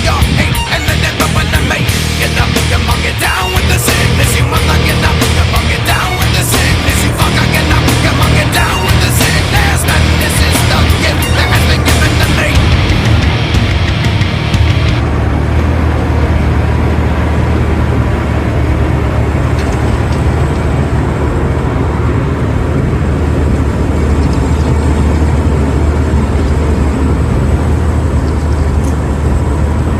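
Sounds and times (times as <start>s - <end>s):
loader engine running: 0.0s - 29.9s.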